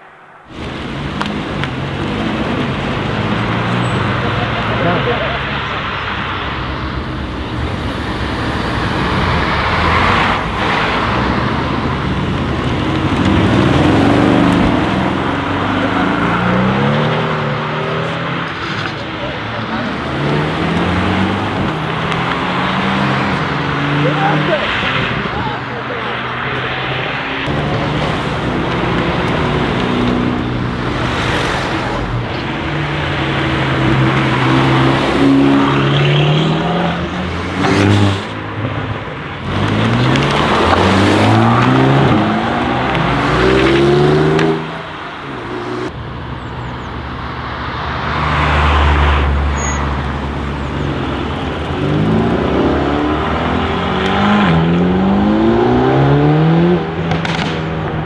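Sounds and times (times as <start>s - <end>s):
car engine accelerating through upshifts: 0.5s - 25.4s, 26.0s - 46.0s, 51.0s - 58.0s.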